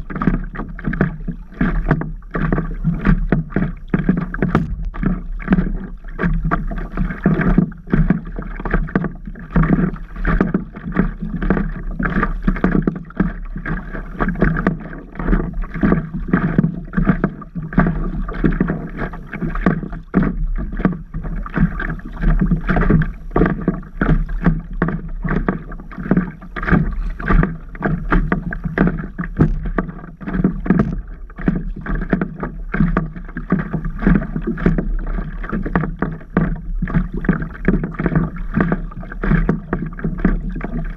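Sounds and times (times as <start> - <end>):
wash of water: 0.0 - 40.9
water splashing against paddle board: 0.0 - 40.9.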